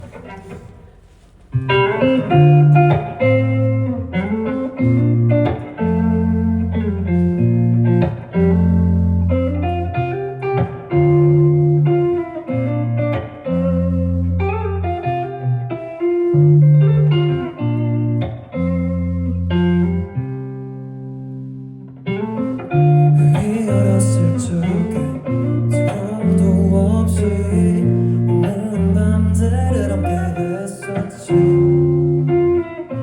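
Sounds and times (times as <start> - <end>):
guitar chords: 0.0 - 33.0.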